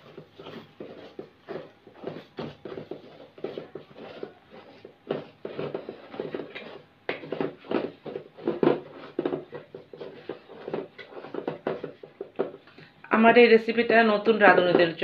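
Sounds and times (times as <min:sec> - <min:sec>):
wooden stick scraping dough in pot: 0:00.0 - 0:12.9, 0:14.1 - 0:15.0.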